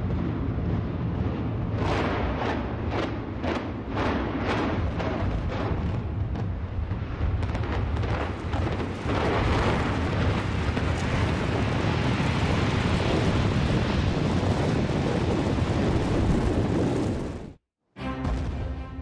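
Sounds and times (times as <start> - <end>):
building collapsing roar: 0.0 - 17.6.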